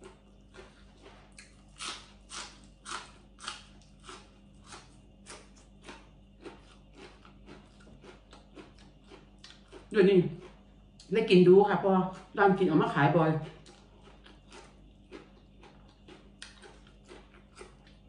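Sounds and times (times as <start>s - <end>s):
crunchy chewing of leafy greens: 0.0s - 11.1s, 11.8s - 18.0s.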